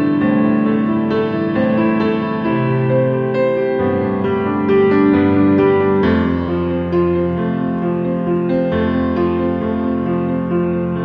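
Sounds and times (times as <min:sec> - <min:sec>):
piano melody over sustained chords: 0:00.0 - 0:11.0.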